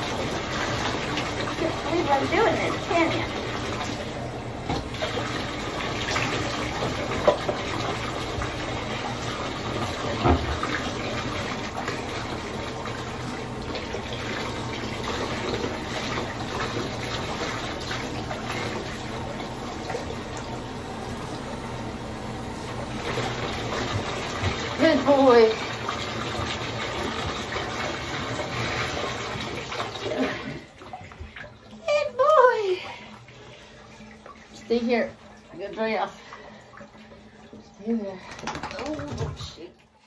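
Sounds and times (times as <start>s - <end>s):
water pouring into bathtub: 0.0s - 40.0s.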